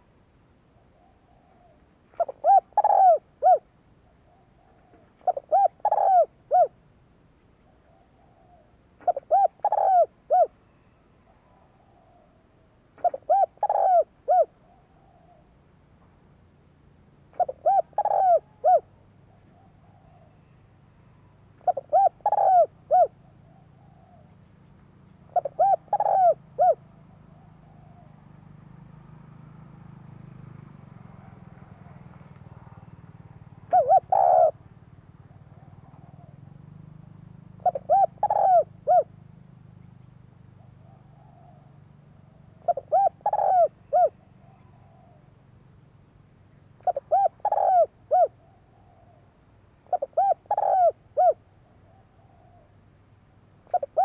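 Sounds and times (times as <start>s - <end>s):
dove cooing: 0.7s - 15.7s, 17.2s - 45.6s, 46.6s - 52.9s, 53.6s - 54.0s.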